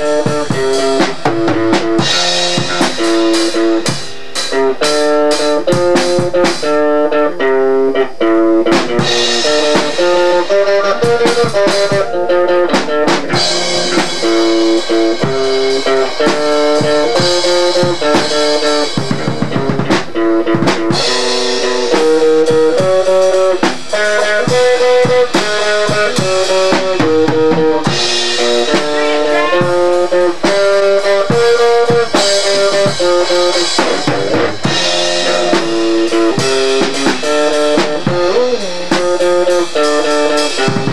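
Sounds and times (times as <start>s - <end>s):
guitar playing melodic lines: 0.0s - 40.9s
steady drumming: 0.0s - 40.9s.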